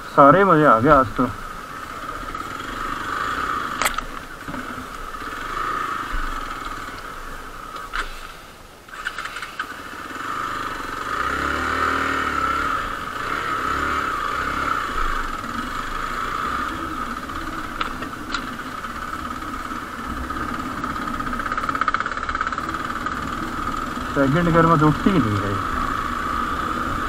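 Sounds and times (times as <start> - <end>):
motorcycle engine running: 0.2 - 8.0, 8.9 - 27.0.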